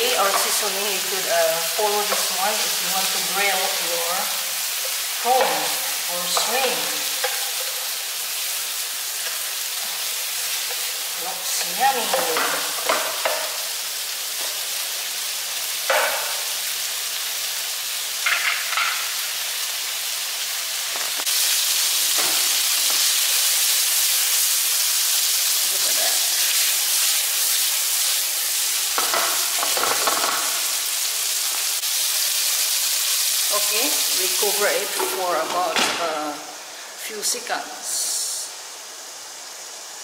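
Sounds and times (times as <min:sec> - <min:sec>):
prawns sizzling in hot oil: 0:00.0 - 0:40.0.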